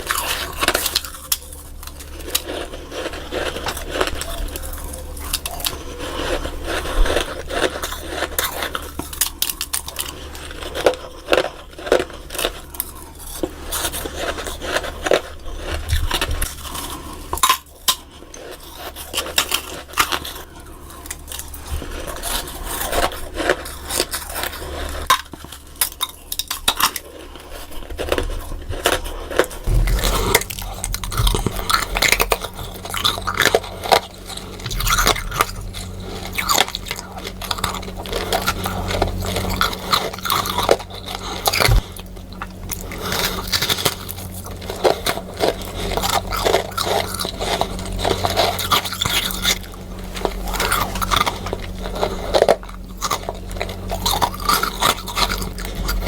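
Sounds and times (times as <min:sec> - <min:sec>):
crunching and scraping of frost: 0:00.0 - 0:56.0.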